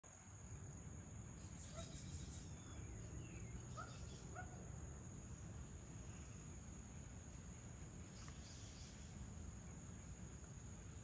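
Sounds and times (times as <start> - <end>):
high-pitched insect trill: 0.1 - 11.0.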